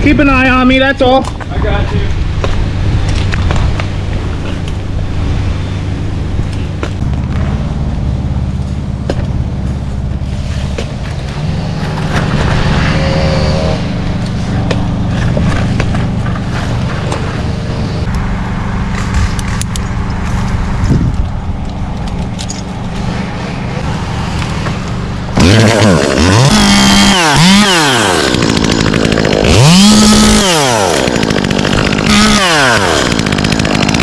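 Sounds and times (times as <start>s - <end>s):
engine running: 1.3s - 34.0s.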